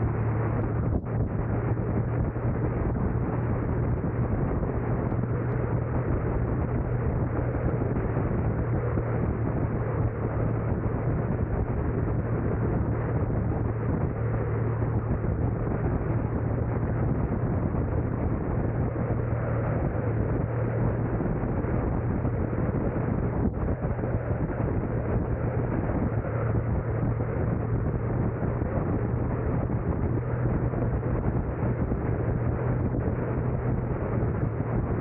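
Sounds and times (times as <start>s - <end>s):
car road and wind noise: 0.0s - 35.0s
constant low hum: 0.0s - 35.0s.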